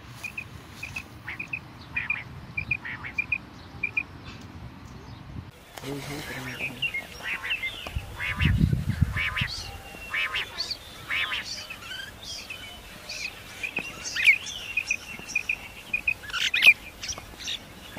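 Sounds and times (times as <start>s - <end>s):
quail calling: 0.2s - 4.1s, 6.2s - 17.9s.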